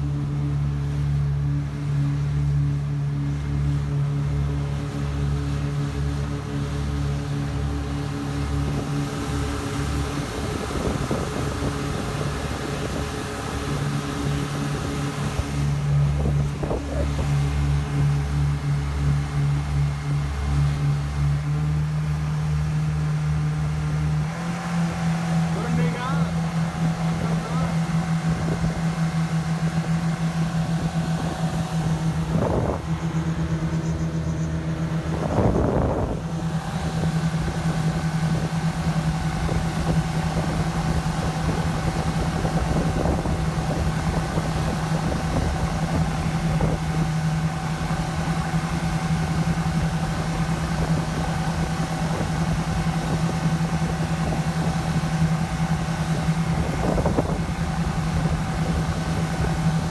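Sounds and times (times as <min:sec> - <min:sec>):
jet boat engine drone: 0:00.0 - 0:59.9.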